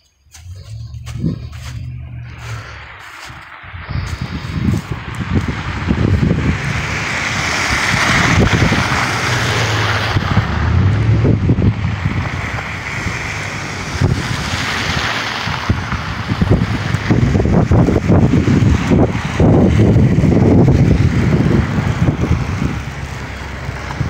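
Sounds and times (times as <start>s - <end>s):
gusty wind buffeting microphone: 0.4s - 24.0s.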